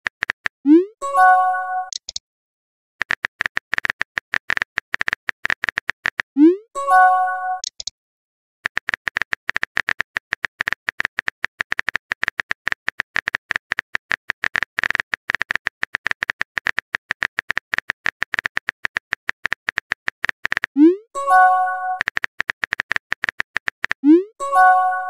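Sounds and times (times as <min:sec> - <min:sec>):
keyboard typing clicks: 0:00.1 - 0:02.2, 0:03.0 - 0:06.3, 0:07.5 - 0:07.9, 0:08.6 - 0:25.0.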